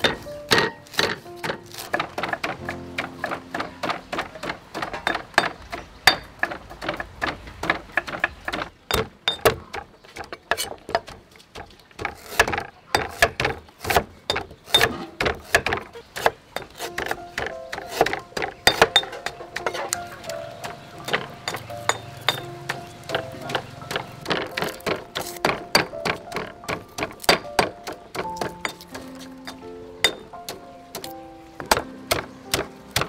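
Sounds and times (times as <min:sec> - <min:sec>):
knife chopping on wooden board: 0:00.0 - 0:33.0
pestle pounding in mortar: 0:00.0 - 0:33.0.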